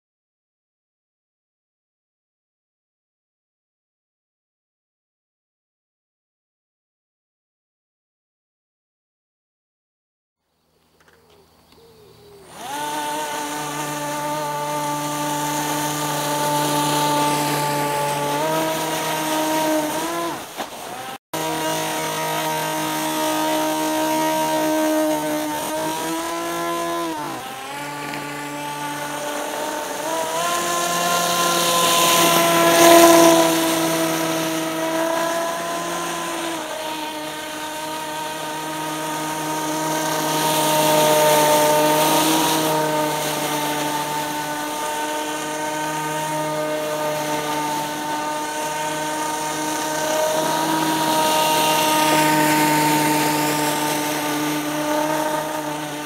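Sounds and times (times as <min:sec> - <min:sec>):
electric motor and propeller whine: 0:10.9 - 0:56.0.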